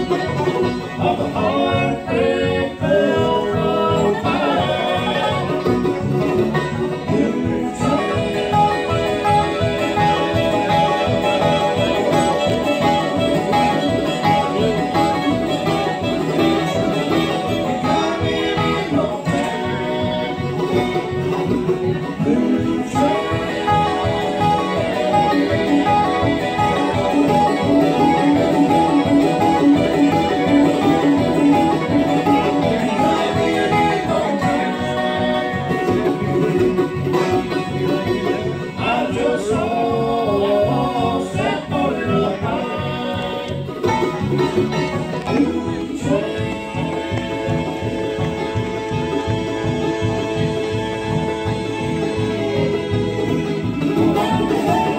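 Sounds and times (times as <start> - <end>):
bluegrass band playing: 0.0 - 54.9.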